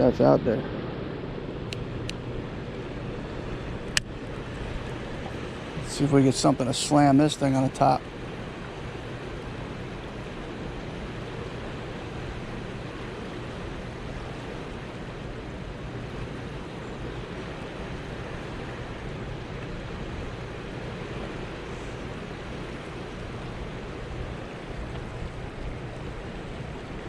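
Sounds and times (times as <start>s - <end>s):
river water rushing: 1.8s - 27.0s.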